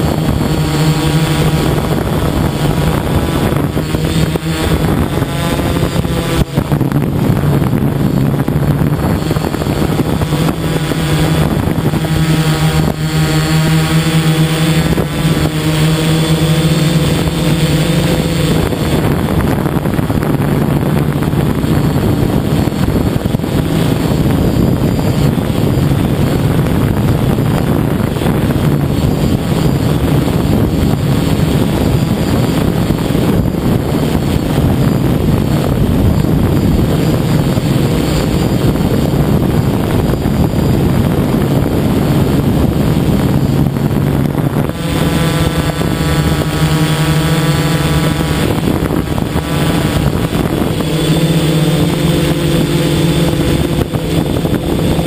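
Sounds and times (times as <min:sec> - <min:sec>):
drone motors buzzing: 0:00.0 - 0:55.0
wind rushing over microphone: 0:00.0 - 0:55.0.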